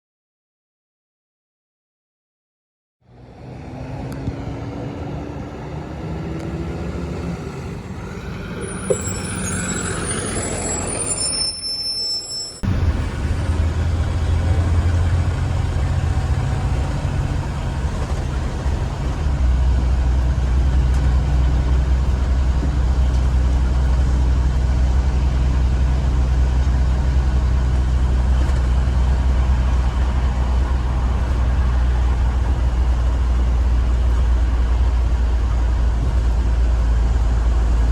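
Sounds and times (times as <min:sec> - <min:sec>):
bus engine droning: 0:03.0 - 0:37.9.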